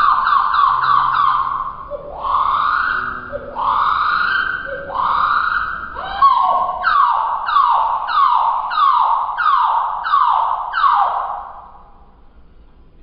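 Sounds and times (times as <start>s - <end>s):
slowed canary song: 0.0s - 13.0s.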